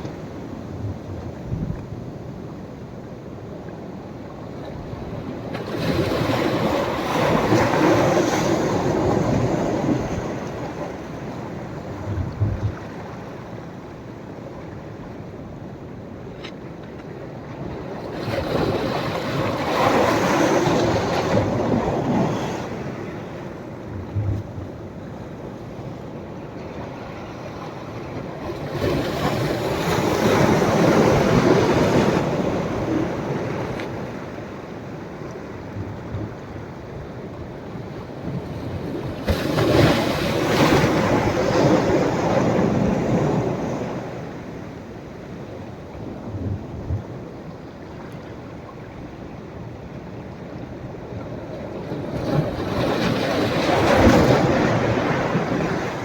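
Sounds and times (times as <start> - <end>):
surf washing on a beach: 0.0 - 56.0.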